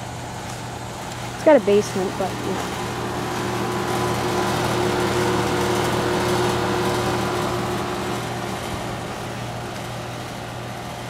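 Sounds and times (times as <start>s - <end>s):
air conditioner unit humming: 0.0s - 11.0s
rush of air from fan: 0.0s - 11.0s.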